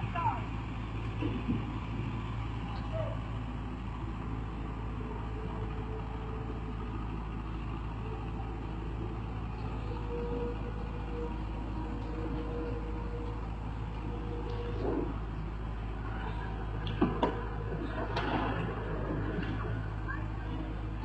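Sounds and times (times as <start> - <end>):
excavator diesel engine: 0.0 - 21.0.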